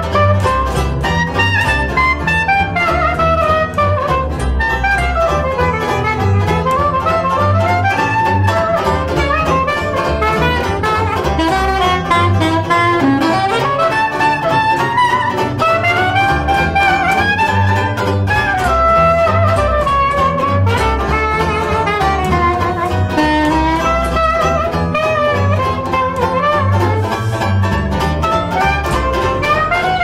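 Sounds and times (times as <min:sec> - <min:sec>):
double bass low notes: 0:00.0 - 0:30.0
soprano saxophone jazz solo: 0:00.0 - 0:30.0
strummed banjo: 0:00.0 - 0:30.0.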